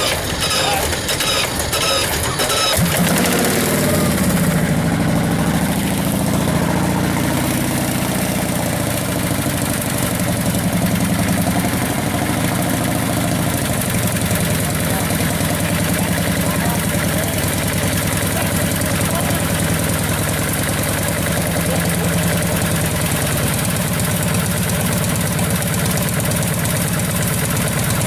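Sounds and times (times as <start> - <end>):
motorcycle engine idling: 0.0 - 28.0
motorcycle engine starting: 0.0 - 28.0.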